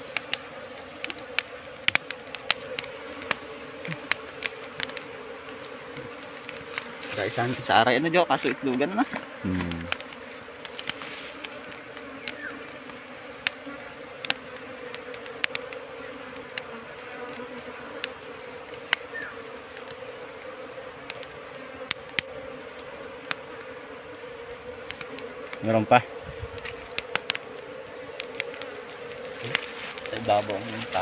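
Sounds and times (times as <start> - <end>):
bees buzzing: 0.0 - 31.0.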